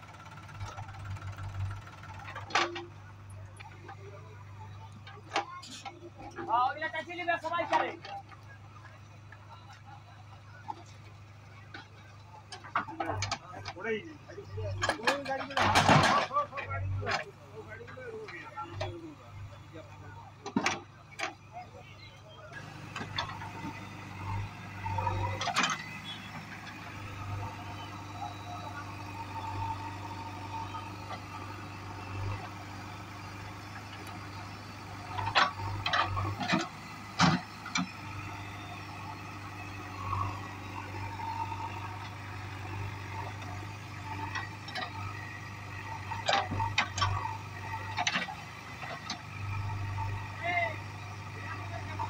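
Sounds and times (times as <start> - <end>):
diesel engine droning: 0.0 - 52.0.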